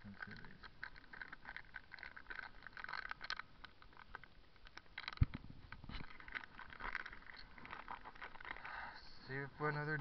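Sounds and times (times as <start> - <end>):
bike rattling on concrete: 0.0 - 10.0.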